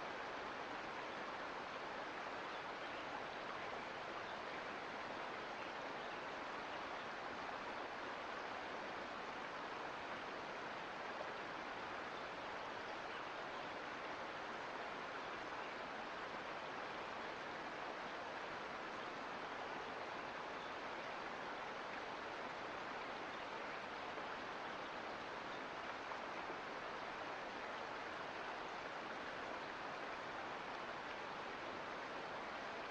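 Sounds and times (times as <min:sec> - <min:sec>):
creek water flowing over rocks: 0:00.0 - 0:32.9.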